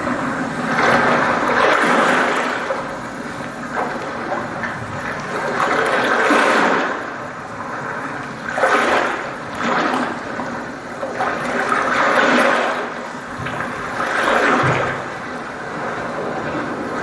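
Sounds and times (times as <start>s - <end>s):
rushing flushing water: 0.0s - 17.0s.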